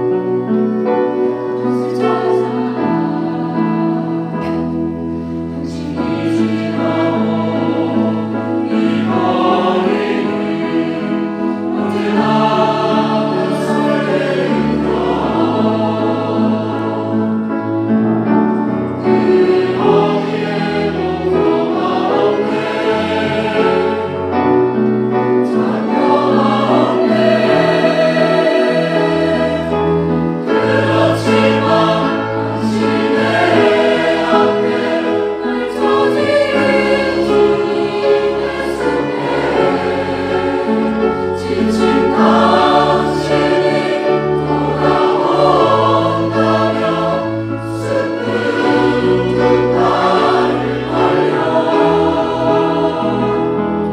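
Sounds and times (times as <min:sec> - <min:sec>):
church choir singing: 0:00.0 - 0:53.9.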